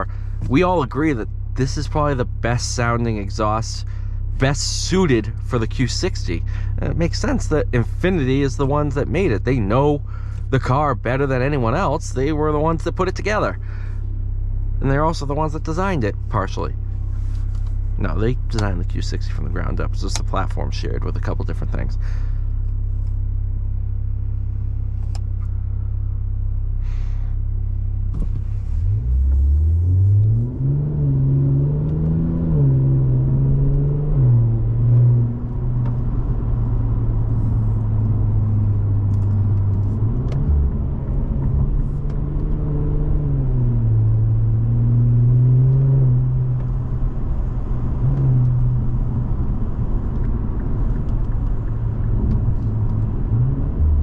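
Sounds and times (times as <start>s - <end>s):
car exhaust drone: 0.0s - 54.0s.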